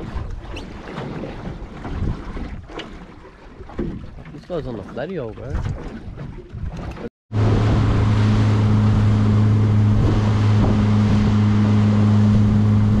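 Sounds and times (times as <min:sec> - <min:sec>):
wind on microphone: 0:00.0 - 0:03.0, 0:05.4 - 0:13.0
outboard motor droning: 0:00.0 - 0:13.0
water rushing from wake: 0:00.0 - 0:13.0.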